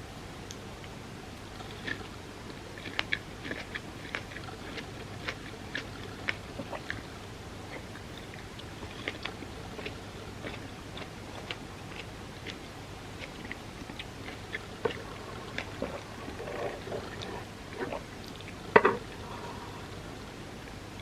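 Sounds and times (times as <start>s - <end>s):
steady background hiss: 0.0s - 21.0s
wet chewing mouth clicks: 1.6s - 7.1s, 7.7s - 19.1s.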